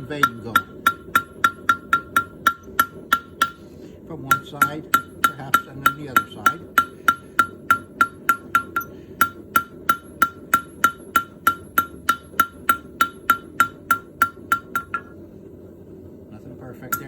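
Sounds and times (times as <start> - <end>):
hammer striking metal on anvil: 0.0 - 15.2.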